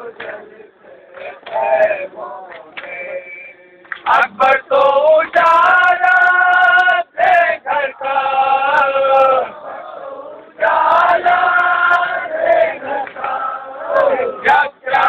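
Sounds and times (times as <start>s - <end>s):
men chanting a lament: 0.0s - 3.3s, 4.1s - 15.0s.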